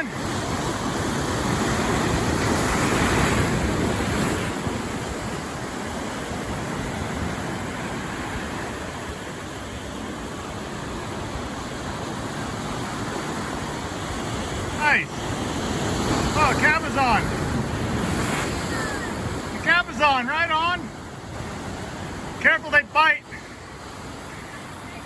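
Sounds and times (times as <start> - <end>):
ocean surf washing against rocks: 0.0 - 25.0.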